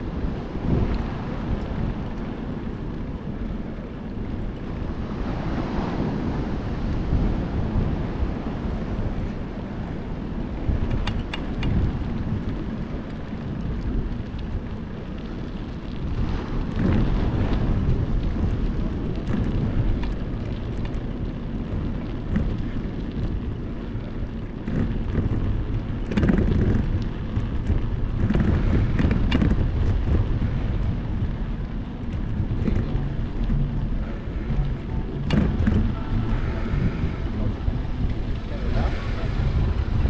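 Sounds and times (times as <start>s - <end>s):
bicycle tyre noise on asphalt: 0.0s - 40.0s
wind buffeting microphone: 0.0s - 40.0s.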